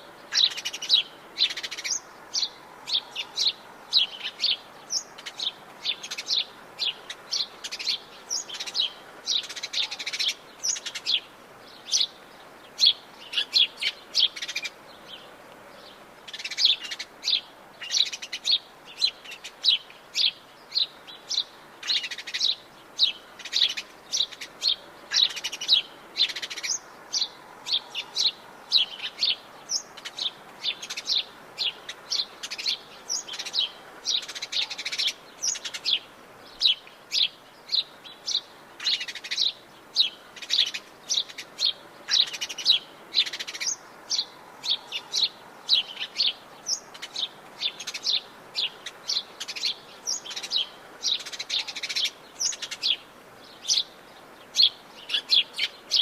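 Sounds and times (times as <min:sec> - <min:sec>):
birds chirping: 0:00.0 - 0:56.0
faint steady hiss: 0:00.0 - 0:56.0.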